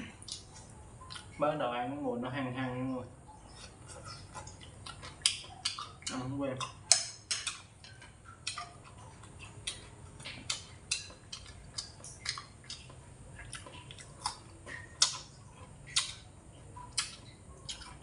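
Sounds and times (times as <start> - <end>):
person chewing crunchy food: 0.0 - 1.4, 3.2 - 18.0.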